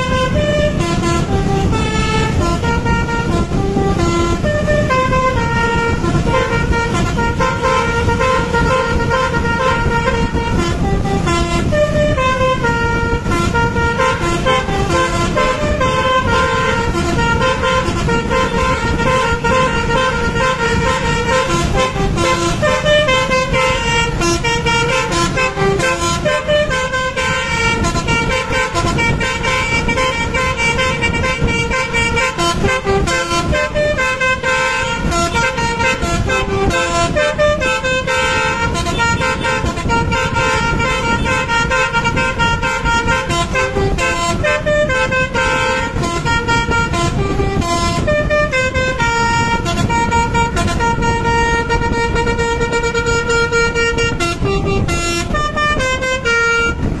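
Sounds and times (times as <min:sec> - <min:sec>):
bus horn playing a tune: 0:00.0 - 0:57.0.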